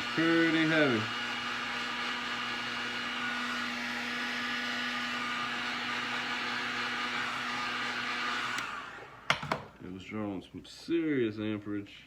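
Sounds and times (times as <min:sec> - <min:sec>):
blower motor whirring hum: 0:00.0 - 0:09.8.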